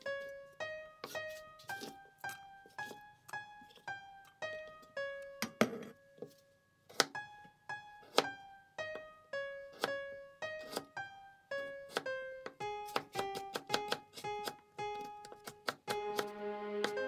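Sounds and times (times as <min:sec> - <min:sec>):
plucked piano-like melody: 0:00.0 - 0:17.0.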